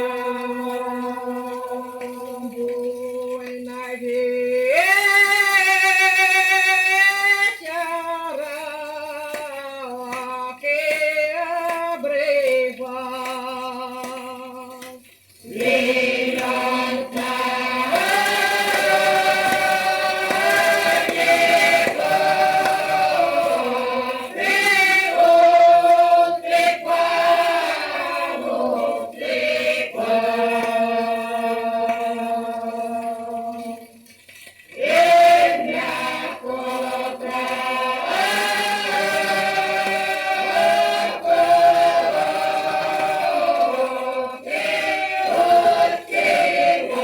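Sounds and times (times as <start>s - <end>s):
choir singing folk song: 0.0s - 47.0s.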